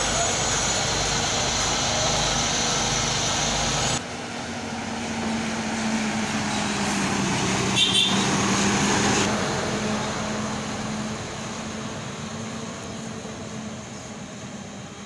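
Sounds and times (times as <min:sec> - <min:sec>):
diesel truck engine driving away: 0:00.0 - 0:15.0.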